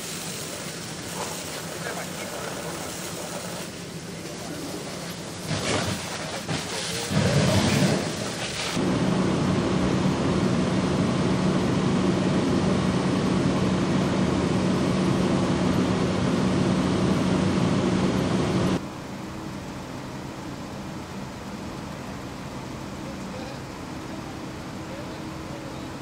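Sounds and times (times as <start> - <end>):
diesel engines humming: 0.0 - 26.0.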